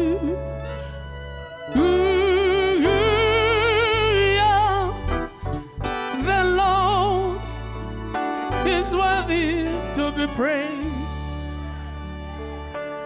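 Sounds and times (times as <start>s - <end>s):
person singing with vibrato: 0.0s - 12.0s
low accompaniment: 0.0s - 13.0s.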